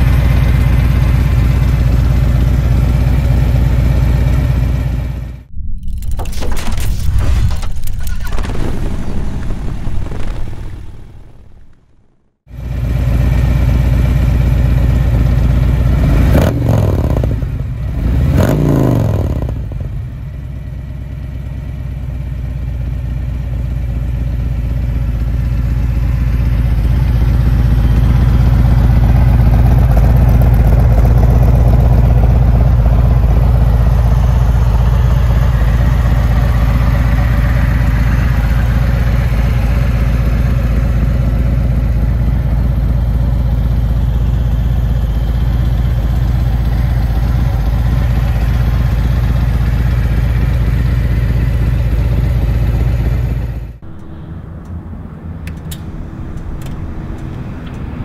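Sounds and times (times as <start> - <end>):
motorcycle engine revving and idling: 0.0 - 5.5, 12.5 - 58.0.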